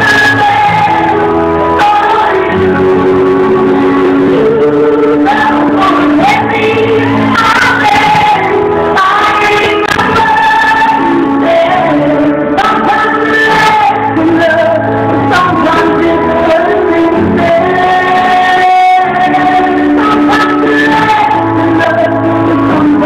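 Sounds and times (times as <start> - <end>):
keyboard accompaniment: 0.0 - 23.0
woman singing: 0.0 - 23.0.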